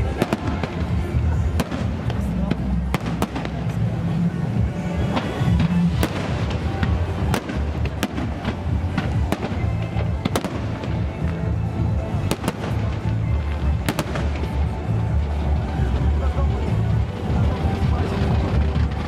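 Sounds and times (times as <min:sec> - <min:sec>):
fireworks bursting: 0:00.0 - 0:19.0
loud music with heavy bass: 0:00.0 - 0:19.0.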